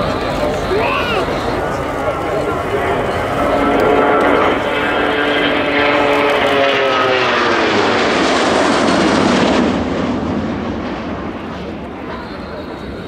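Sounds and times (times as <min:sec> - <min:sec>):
jet airliner flying past: 0:00.0 - 0:13.0.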